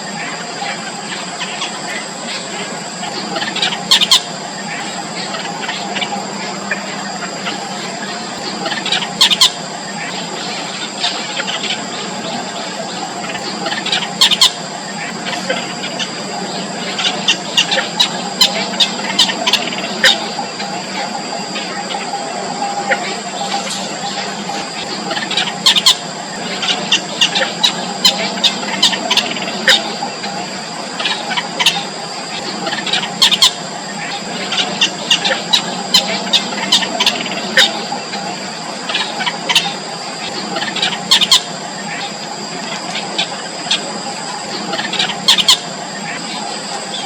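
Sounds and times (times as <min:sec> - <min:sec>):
steady high tones: 0:00.0 - 0:47.0.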